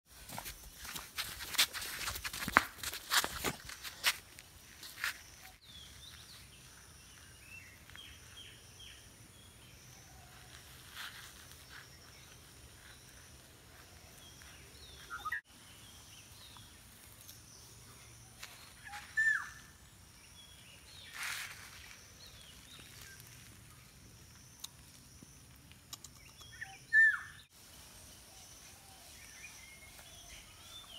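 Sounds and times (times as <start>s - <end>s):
small birds chirping: 4.6s - 30.9s.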